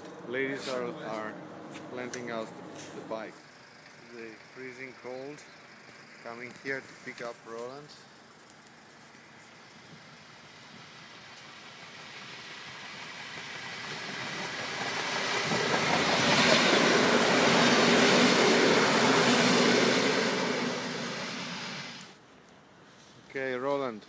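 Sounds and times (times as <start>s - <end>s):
train passing on rails: 0.0s - 22.2s.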